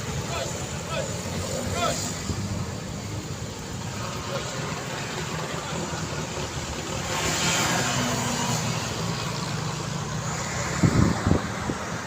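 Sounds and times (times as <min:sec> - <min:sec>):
traffic driving by: 0:00.0 - 0:12.0.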